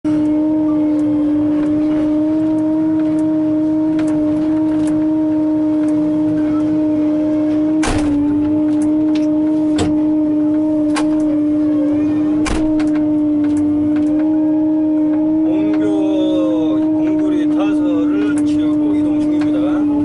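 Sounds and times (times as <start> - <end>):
excavator engine droning: 0.0 - 20.0.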